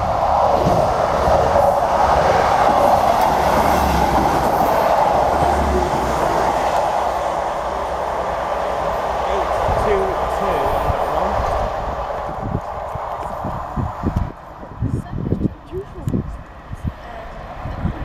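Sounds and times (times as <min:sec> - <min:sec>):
train rushing past on rails: 0:00.0 - 0:18.0.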